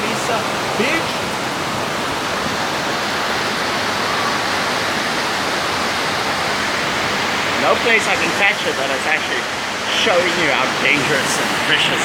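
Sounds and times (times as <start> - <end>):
heavy rain on roofs: 0.0 - 12.0.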